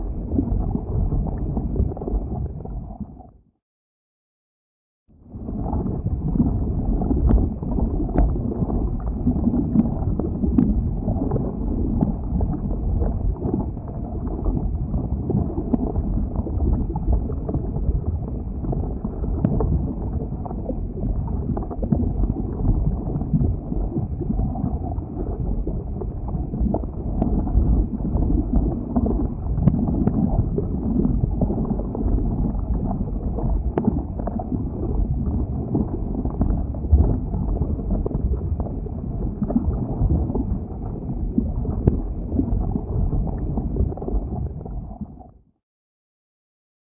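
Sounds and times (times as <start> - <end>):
lava flow rumbling: 0.0 - 3.3, 5.2 - 45.3.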